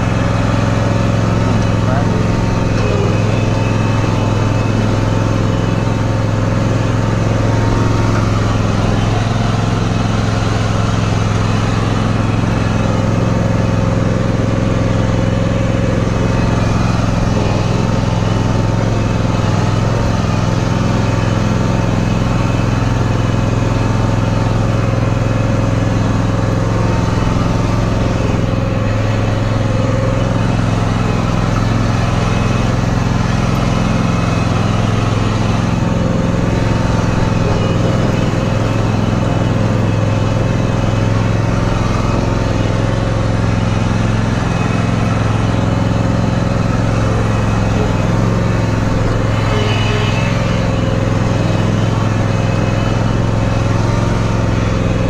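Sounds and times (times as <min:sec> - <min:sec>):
lawn tractor engine running: 0:00.0 - 0:55.0.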